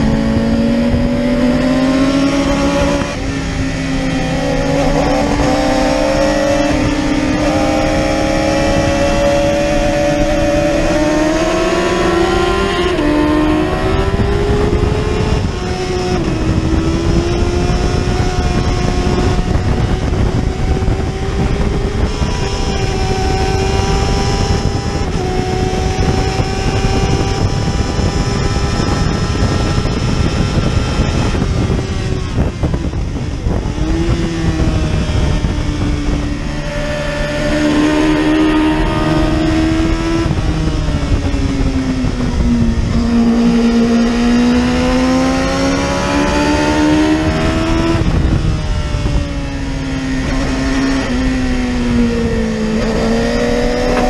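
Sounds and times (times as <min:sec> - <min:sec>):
heavy steady rushing noise: 0:00.0 - 0:54.0
racing motorcycle engine: 0:00.0 - 0:54.0.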